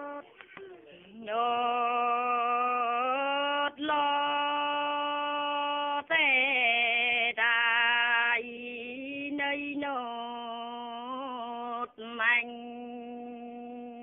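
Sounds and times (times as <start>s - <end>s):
woman singing unaccompanied: 0.0s - 0.4s, 1.0s - 14.0s.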